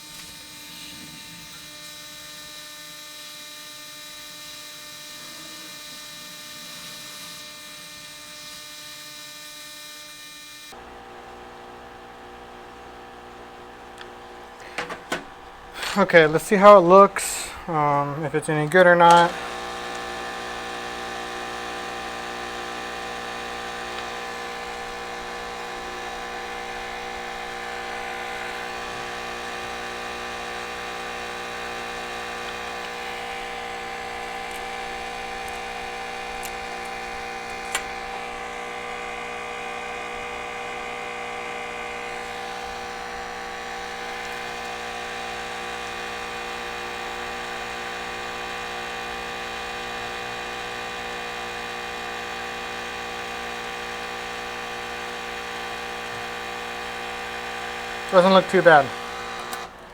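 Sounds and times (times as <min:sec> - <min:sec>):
small electric motor humming: 0:00.0 - 0:59.9.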